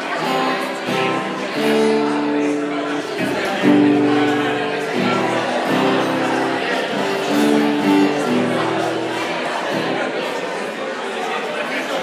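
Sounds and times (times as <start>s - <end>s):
live band with acoustic guitar: 0.0s - 12.0s.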